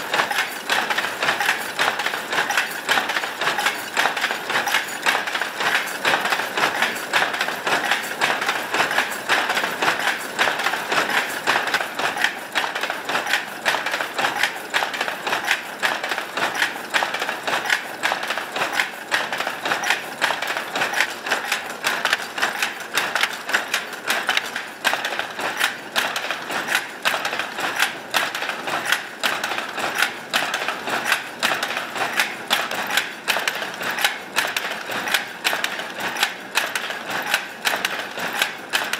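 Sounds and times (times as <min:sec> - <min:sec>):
power loom clattering: 0:00.0 - 0:38.9.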